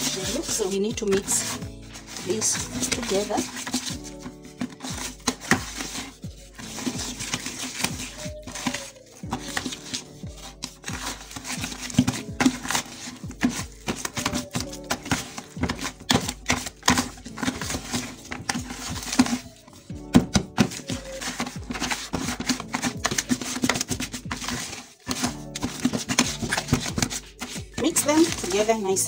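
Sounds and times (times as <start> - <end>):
background music: 0.0 - 29.0
stick scraping in plastic bucket: 0.0 - 29.0.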